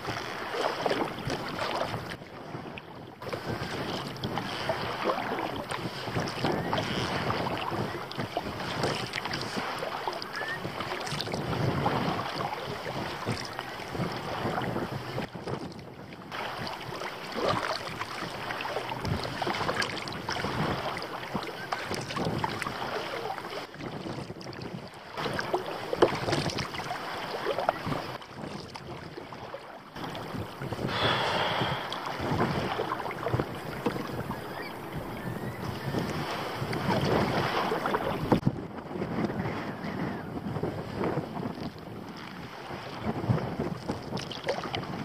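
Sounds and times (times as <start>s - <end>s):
wind buffeting microphone: 0.0s - 29.4s, 30.0s - 45.0s
paddle strokes splashing: 0.0s - 39.6s, 40.8s - 45.0s
water slapping against hull: 0.0s - 45.0s.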